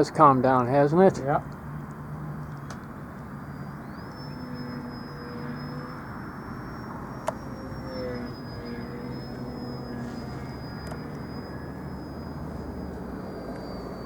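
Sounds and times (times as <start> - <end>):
model airplane motor whining: 1.5 - 14.0.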